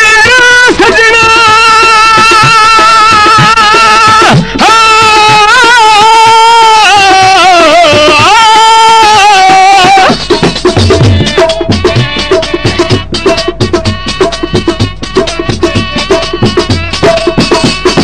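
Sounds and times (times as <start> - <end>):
percussion: 0.0 - 18.0.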